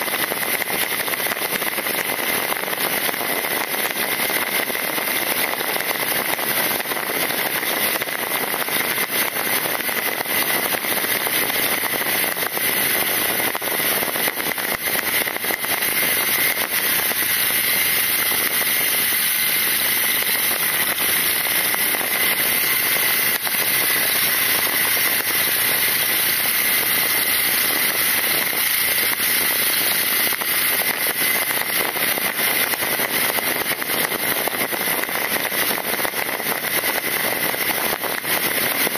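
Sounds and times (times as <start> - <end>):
high whine: 0.0 - 38.9
wind and road noise: 0.1 - 38.9.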